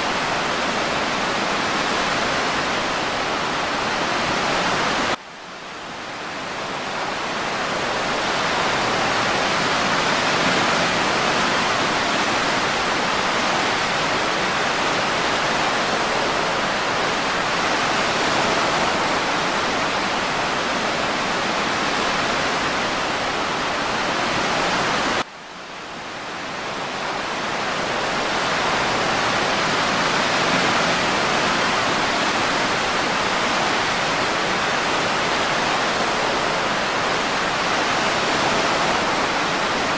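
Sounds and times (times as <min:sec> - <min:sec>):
ocean and breeze rushing: 0:06.0 - 0:39.9.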